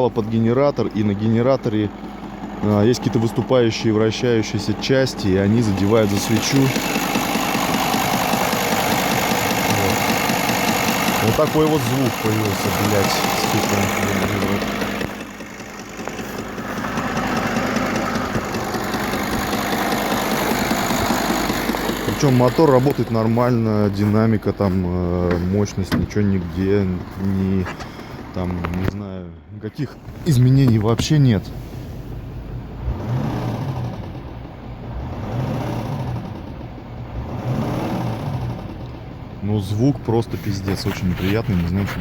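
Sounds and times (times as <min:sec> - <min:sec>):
rattling engine knock: 0:00.0 - 0:28.9, 0:32.8 - 0:42.0
diesel engine running: 0:00.0 - 0:42.0.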